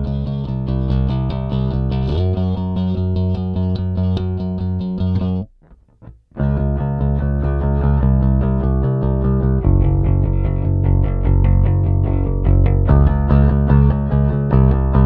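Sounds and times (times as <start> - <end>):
electric bass played with pick: 0.0 - 15.0.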